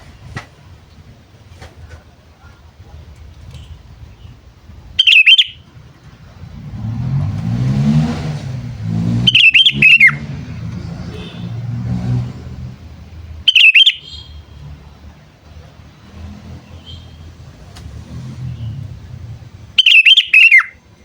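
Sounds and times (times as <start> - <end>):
passing motor vehicle: 0.0 - 21.0.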